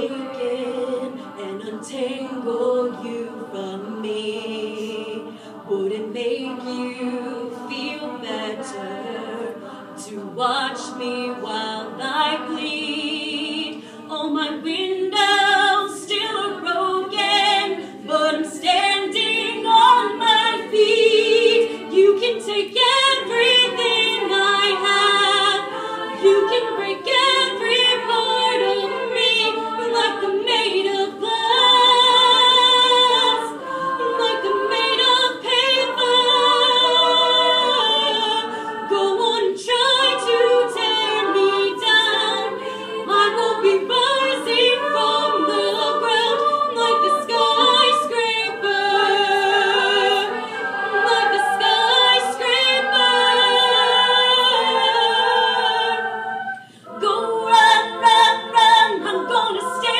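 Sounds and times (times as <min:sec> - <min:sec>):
women singing in harmony: 0:00.0 - 0:59.9.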